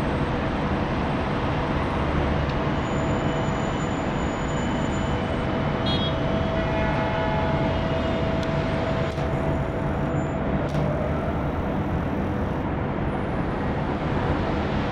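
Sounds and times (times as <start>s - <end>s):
city traffic rumble: 0.0s - 14.9s
mechanical hum: 0.0s - 14.9s.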